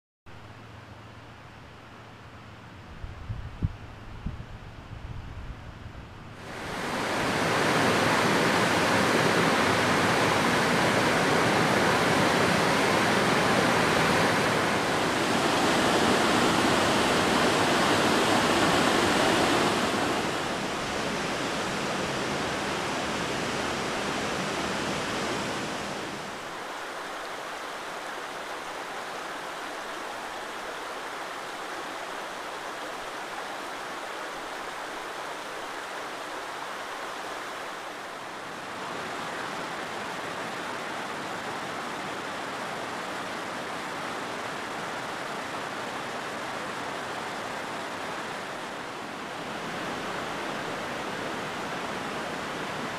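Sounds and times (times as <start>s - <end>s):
rocky stream rushing: 6.3s - 52.9s
waterfall rushing: 6.4s - 52.9s.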